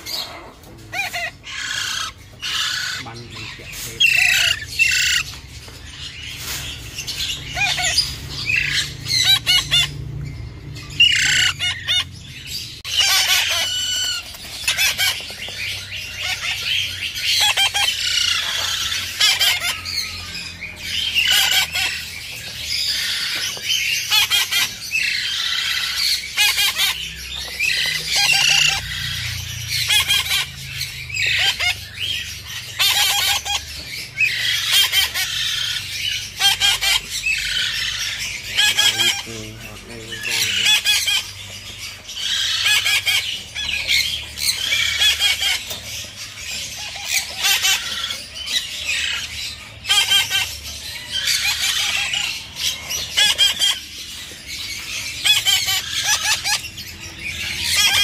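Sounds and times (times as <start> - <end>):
parakeet chicks squawking: 0.0 - 58.0.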